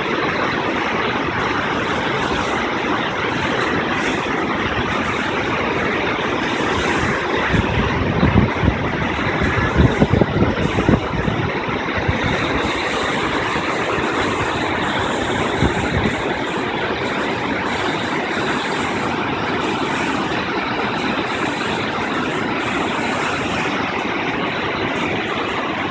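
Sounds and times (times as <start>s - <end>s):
whitewater rushing: 0.0s - 25.9s.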